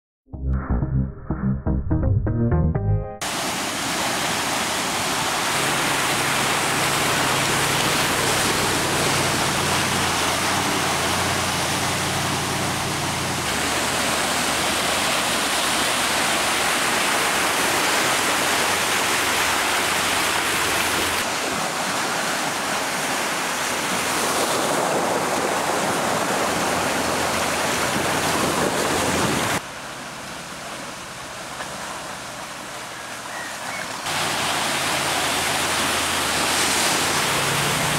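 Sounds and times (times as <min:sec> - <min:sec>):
muddy water rushing and splashing: 0:03.2 - 0:37.9.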